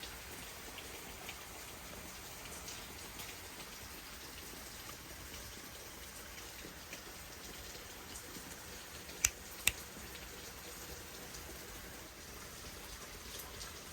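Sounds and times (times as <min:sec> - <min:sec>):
steady rain falling: 0:00.0 - 0:13.9.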